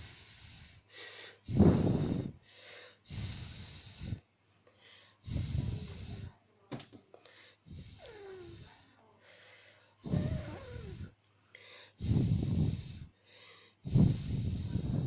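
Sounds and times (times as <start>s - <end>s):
person breathing heavily: 0.0s - 6.4s, 7.2s - 15.0s.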